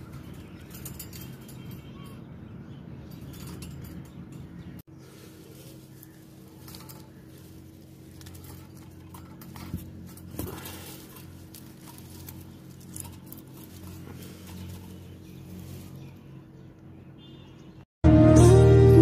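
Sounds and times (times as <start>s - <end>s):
birds scratching in wire cage: 0.0s - 2.2s, 3.1s - 16.5s
steady low hum: 0.0s - 17.5s.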